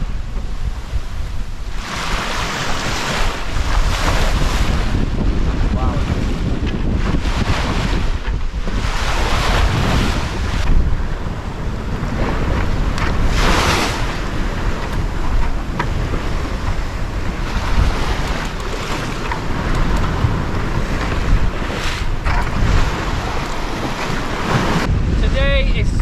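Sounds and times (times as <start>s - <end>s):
sea water rushing along hull: 0.0s - 26.0s
wind buffeting microphone: 0.0s - 26.0s.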